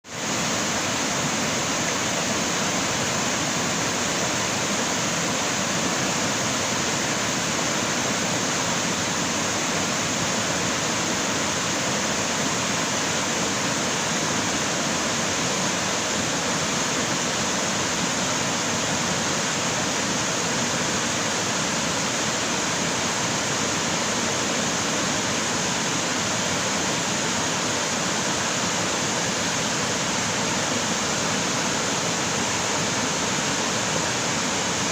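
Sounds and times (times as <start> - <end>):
creek water running: 0.1 - 34.9.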